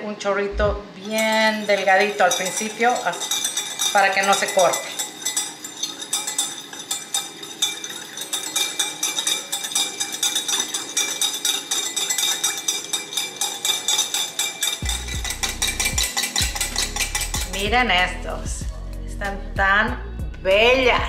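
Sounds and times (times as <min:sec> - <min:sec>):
whisk clinking against glass cup: 0:01.0 - 0:18.6.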